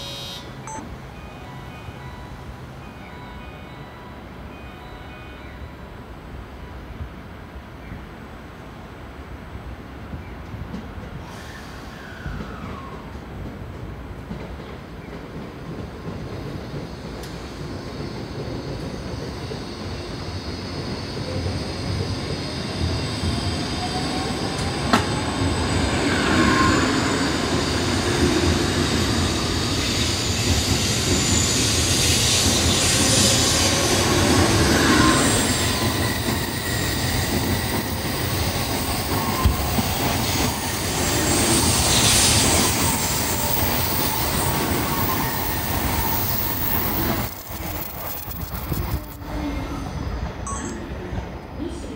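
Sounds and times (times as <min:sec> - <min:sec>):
train wheel and rolling noise: 0:00.0 - 0:51.9.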